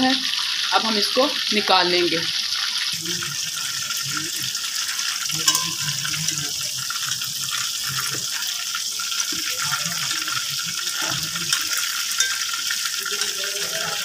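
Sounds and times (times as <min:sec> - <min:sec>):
fish deep-frying in oil: 0:00.0 - 0:14.0.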